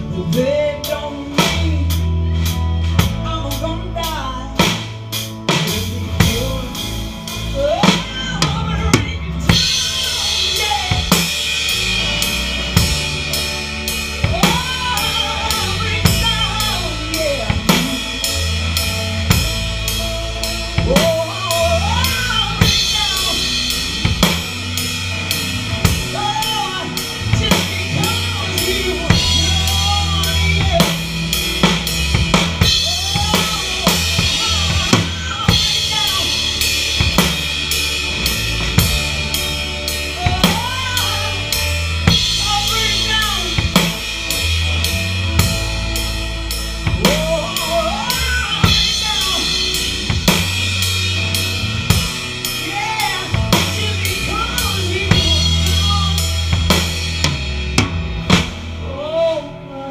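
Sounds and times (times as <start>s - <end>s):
live band playing: 0.0s - 59.9s
drums and snare: 1.3s - 58.8s.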